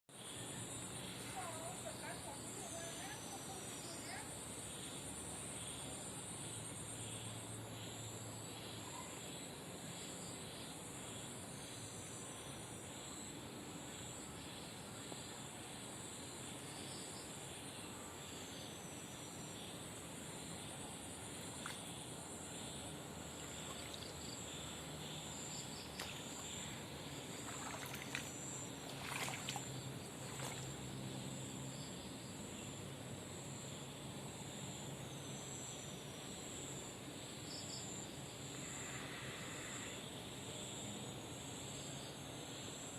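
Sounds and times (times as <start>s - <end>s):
faint outdoor hiss: 0.1s - 42.9s
insects trilling: 0.2s - 42.9s.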